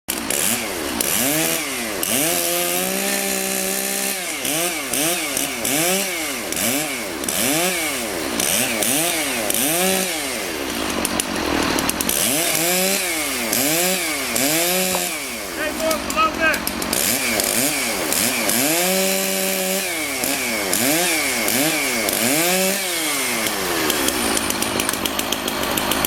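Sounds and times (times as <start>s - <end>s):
chainsaw revving while cutting: 0.1s - 26.0s.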